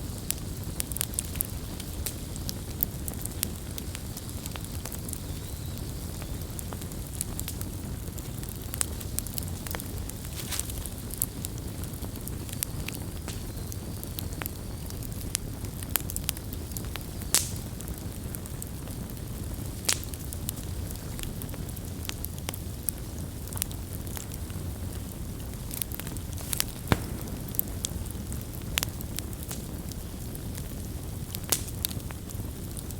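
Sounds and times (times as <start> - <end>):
burning wood crackles and pops: 0.0 - 32.9
low roar of campfire: 0.0 - 32.9.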